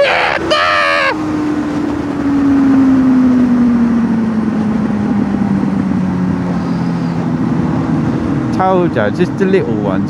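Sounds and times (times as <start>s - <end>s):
motorcycle engine decelerating: 0.0s - 10.0s
wind noise: 0.0s - 10.0s.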